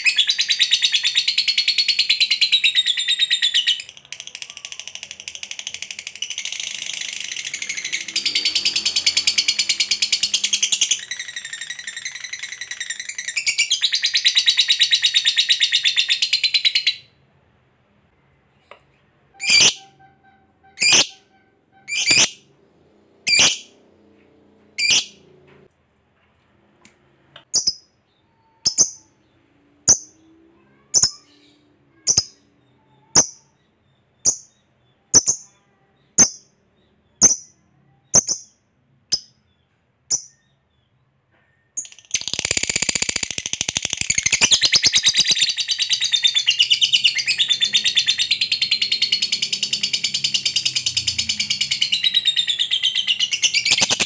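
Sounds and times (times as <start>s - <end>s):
lovebird chirping and chattering: 0.0s - 17.2s, 19.3s - 22.5s, 23.3s - 23.8s, 24.8s - 25.2s, 27.5s - 40.8s, 41.8s - 54.0s.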